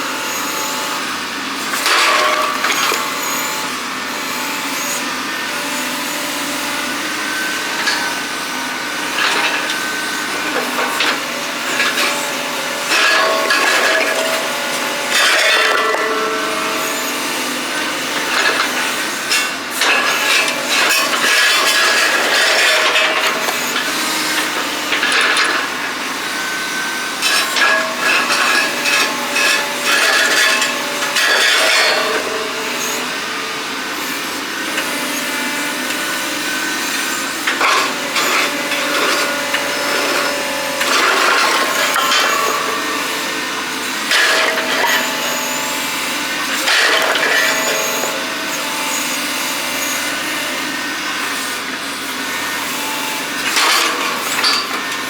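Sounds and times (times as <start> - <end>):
metal squealing on concrete: 0.0 - 51.7, 52.3 - 55.0
excavator rake scraping concrete: 0.0 - 55.0.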